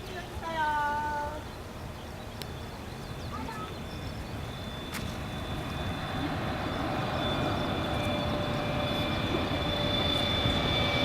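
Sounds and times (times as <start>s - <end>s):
jet airliner engines whining: 0.0s - 11.0s.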